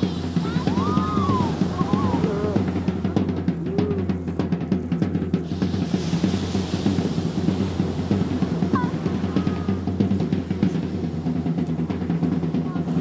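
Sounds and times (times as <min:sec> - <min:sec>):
drums playing fast rhythm: 0:00.0 - 0:13.0.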